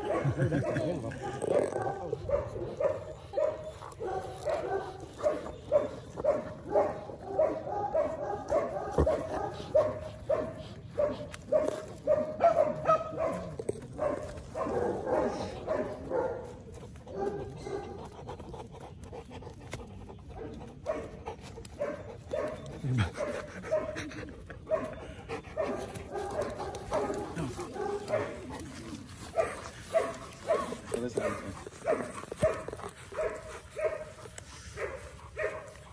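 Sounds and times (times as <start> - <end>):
dog barking: 0.0 - 18.0, 20.4 - 21.2, 21.8 - 22.6, 23.2 - 24.0, 24.7 - 25.0, 25.6 - 35.9.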